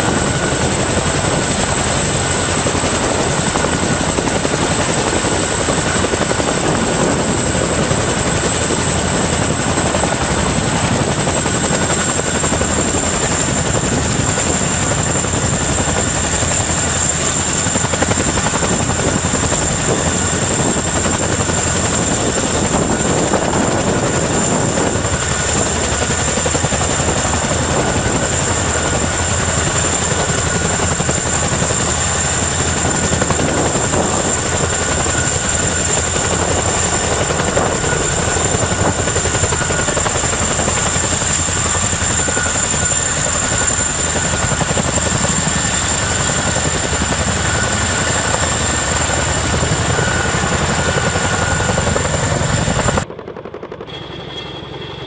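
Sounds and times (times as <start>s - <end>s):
helicopter rotor and engine noise: 0.0s - 55.0s
high turbine whine: 0.0s - 55.0s.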